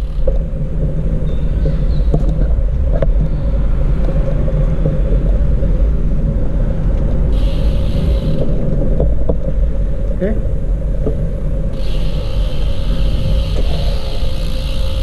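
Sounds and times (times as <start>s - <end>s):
wind and road noise rumble: 0.0s - 15.0s.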